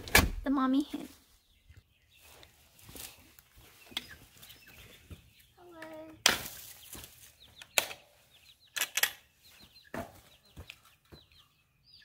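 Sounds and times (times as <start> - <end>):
baby chicks peeping: 0.7 - 12.0.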